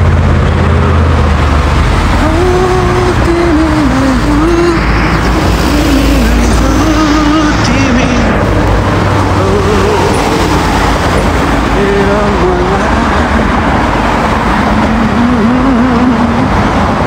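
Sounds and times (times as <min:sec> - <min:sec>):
road traffic noise: 0:00.0 - 0:17.0
person singing: 0:02.0 - 0:17.0.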